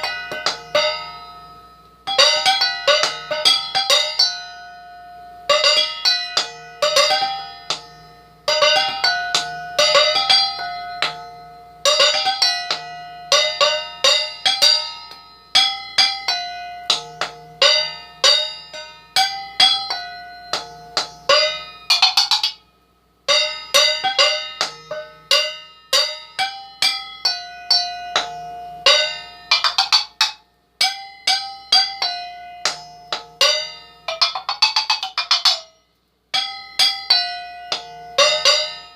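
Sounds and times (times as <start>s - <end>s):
mixing bowls struck as percussion: 0.0s - 38.9s.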